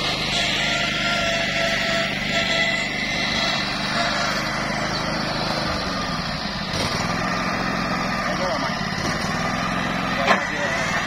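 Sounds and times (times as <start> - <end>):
grass cutter engine running: 0.0 - 11.0.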